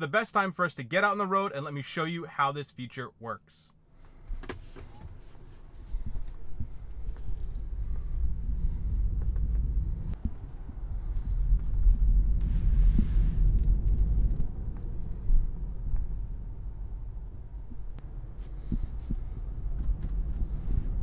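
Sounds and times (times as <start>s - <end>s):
road and tyre rumble in car cabin: 3.8s - 21.0s.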